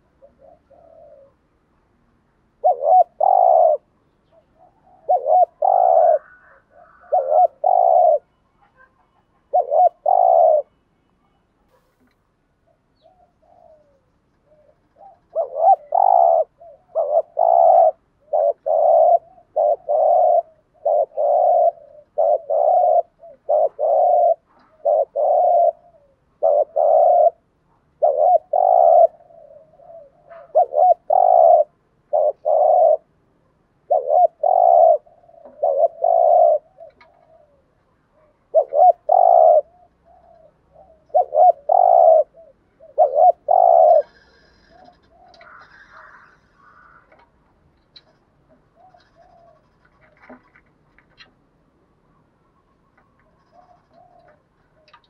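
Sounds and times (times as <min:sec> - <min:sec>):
dove cooing: 0:00.0 - 0:01.6, 0:02.4 - 0:12.1, 0:12.7 - 0:55.0.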